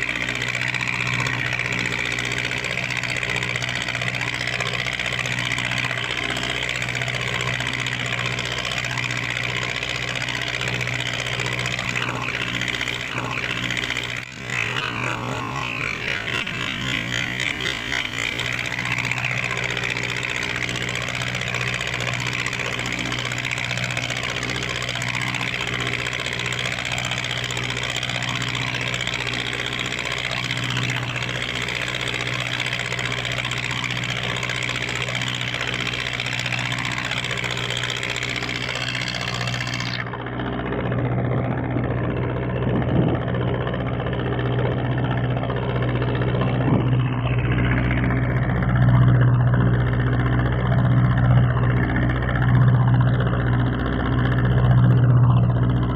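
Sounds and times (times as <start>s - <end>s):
diesel boat engine droning: 0.0s - 55.9s.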